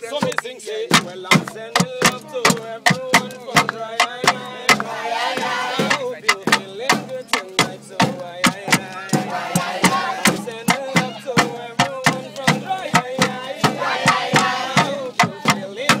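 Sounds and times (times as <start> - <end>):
group of voices singing: 0.0 - 16.0
sharp percussive strikes: 0.2 - 16.0.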